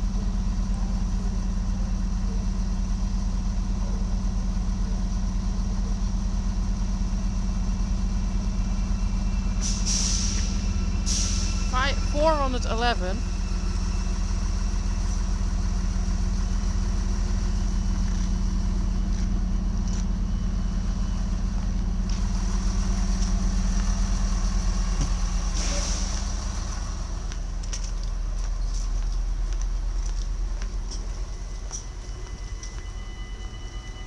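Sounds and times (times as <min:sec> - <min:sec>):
railcar engine idling: 0:00.0 - 0:34.0.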